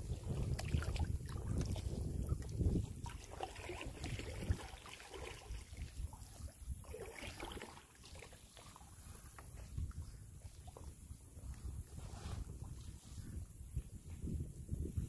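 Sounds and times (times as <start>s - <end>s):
water splashing around kayak: 0.0s - 15.0s
wind rumbling on microphone: 0.0s - 15.0s.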